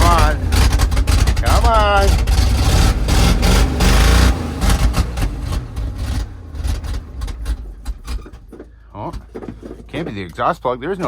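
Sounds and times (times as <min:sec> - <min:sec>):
engine sputtering on cold start: 0:00.0 - 0:10.3.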